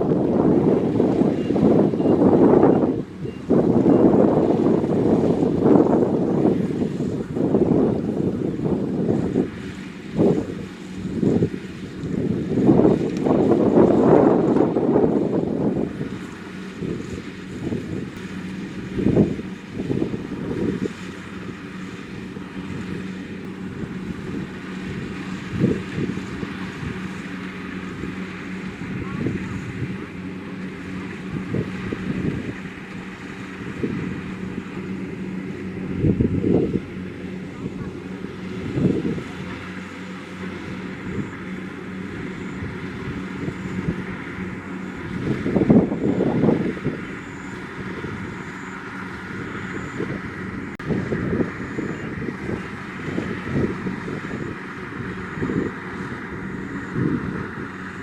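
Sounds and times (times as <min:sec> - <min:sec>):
combine harvester droning: 0:00.0 - 0:58.0
wind buffeting microphone: 0:00.0 - 0:58.0.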